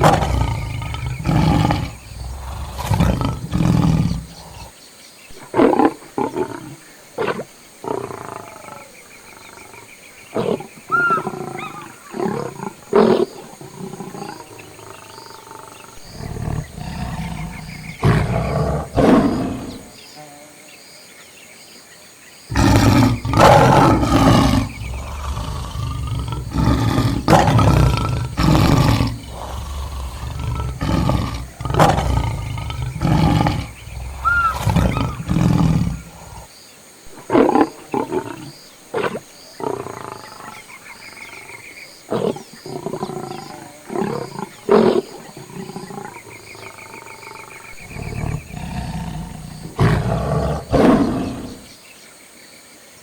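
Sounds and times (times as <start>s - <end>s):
lions growling and roaring: 0.0s - 20.0s, 22.5s - 36.5s, 37.1s - 51.8s.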